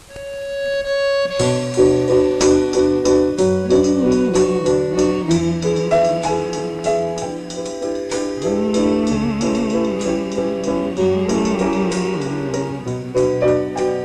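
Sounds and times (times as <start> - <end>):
short plucked chords: 0.0 - 14.0
wavering held melody notes: 0.0 - 14.0.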